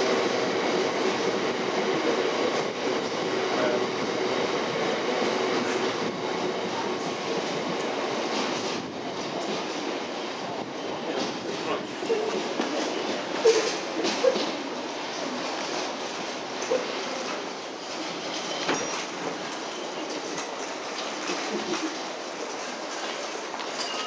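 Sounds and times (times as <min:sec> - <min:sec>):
freight train wheels rattling on rails: 0:00.0 - 0:24.0.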